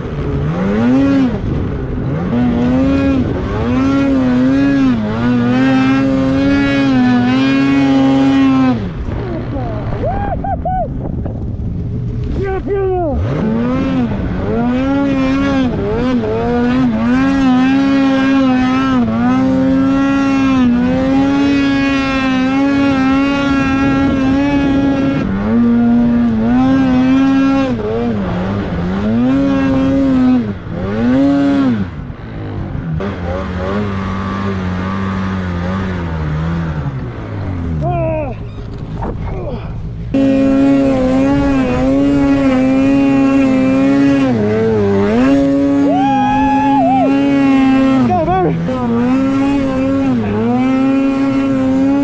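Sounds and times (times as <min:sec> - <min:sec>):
snowmobile engine revving: 0:00.0 - 0:11.1, 0:11.7 - 0:52.0.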